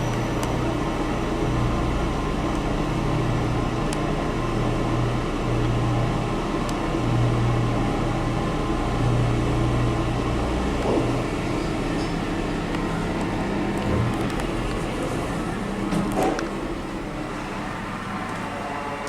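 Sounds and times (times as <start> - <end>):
lift mechanical hum: 0.0 - 19.0.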